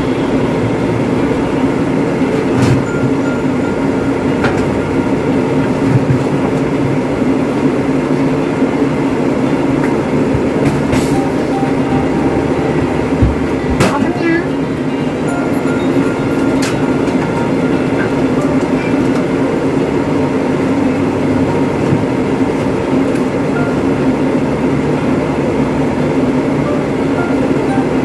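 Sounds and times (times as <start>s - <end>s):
loud rumbling machine noise: 0.0s - 28.0s.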